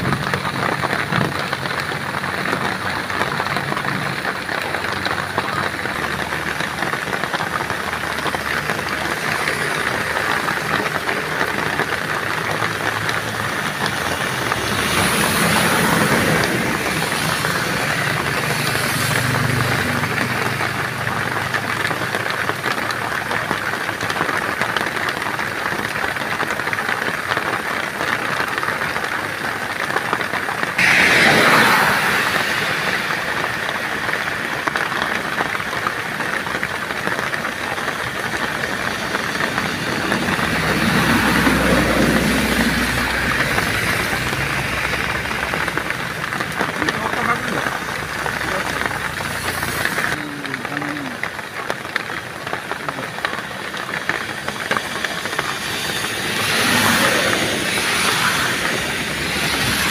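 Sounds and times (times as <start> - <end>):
motorcycles passing: 0.0 - 25.9, 27.2 - 59.9
bus engine: 0.0 - 59.9
heavy rain hiss: 0.0 - 59.9
tyres on wet road: 0.0 - 59.9.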